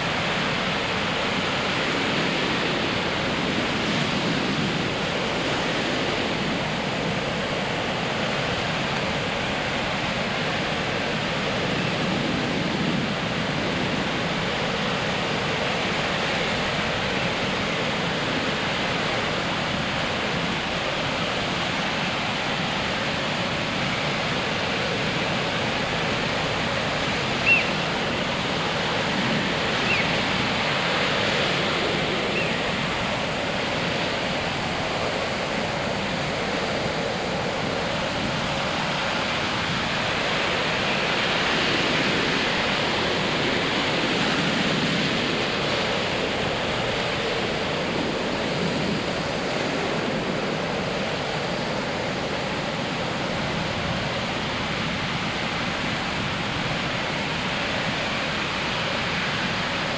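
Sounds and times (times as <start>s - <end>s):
surf washing up a beach: 0.0s - 59.9s.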